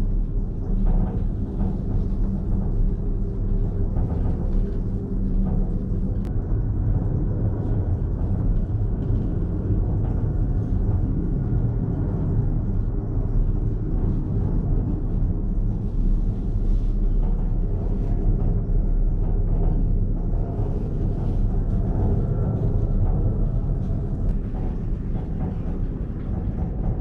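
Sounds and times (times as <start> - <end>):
cable car cabin rumble: 0.0 - 27.0.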